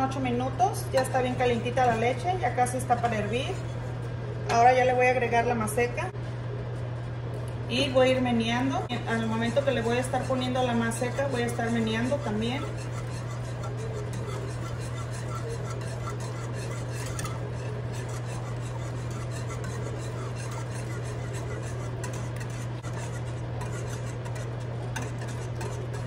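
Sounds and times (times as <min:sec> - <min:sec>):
whisk scraping a pot: 0:00.0 - 0:05.4, 0:07.8 - 0:26.0
low hum: 0:00.0 - 0:26.0.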